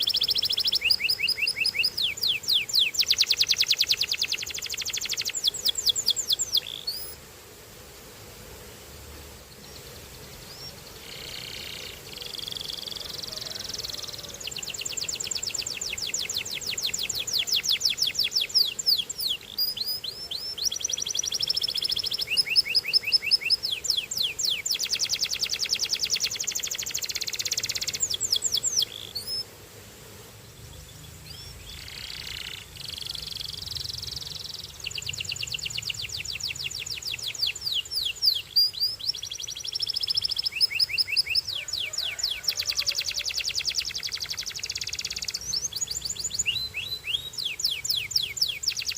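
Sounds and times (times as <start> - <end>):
canary singing trills: 0.0 - 7.2, 9.6 - 29.4, 30.6 - 48.9.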